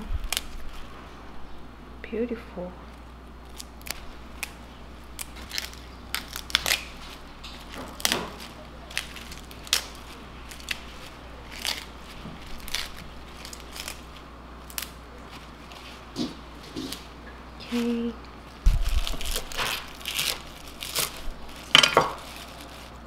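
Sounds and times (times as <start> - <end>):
kale leaves tearing: 0.0 - 1.1, 2.9 - 17.0, 18.4 - 23.0.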